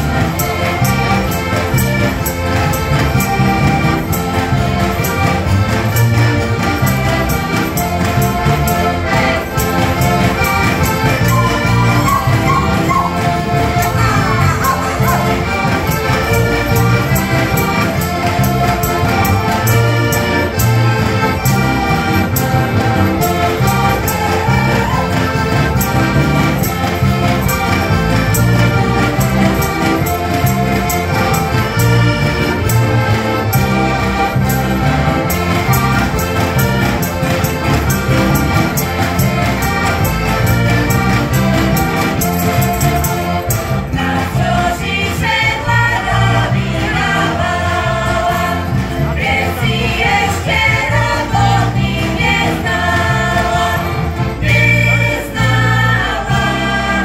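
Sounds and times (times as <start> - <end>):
bass and guitar beat: 0.0 - 57.0
button accordions playing tune: 0.0 - 57.0.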